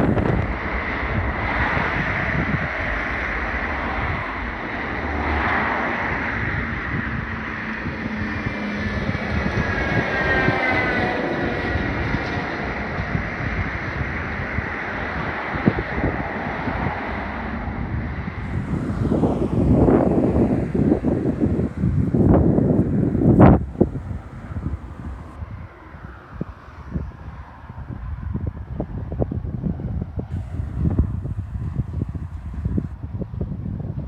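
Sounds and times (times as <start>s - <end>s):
aircraft engine: 0.0s - 34.0s
wind buffeting microphone: 0.0s - 34.0s.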